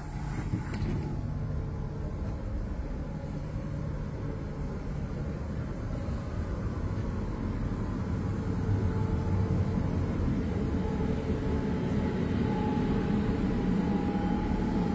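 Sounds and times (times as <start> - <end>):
faint steady whine: 0.0 - 14.9
train carriage rumble: 0.0 - 14.9.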